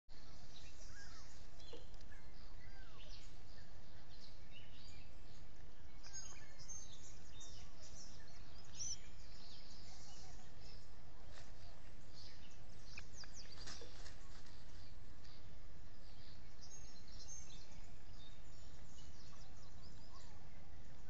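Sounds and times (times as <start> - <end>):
low background noise: 0.1 - 21.0
bird chirps and calls: 0.2 - 21.0.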